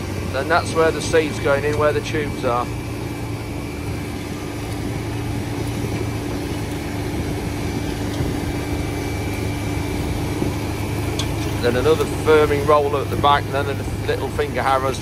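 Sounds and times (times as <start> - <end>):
tractor running: 0.0 - 15.0.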